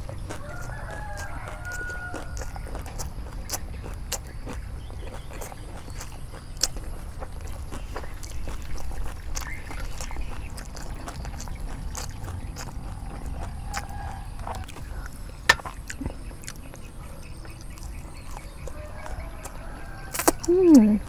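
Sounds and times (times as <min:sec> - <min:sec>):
crispy pancake tearing and chewing: 0:00.0 - 0:16.9, 0:17.6 - 0:20.5
low rumble: 0:02.4 - 0:19.6.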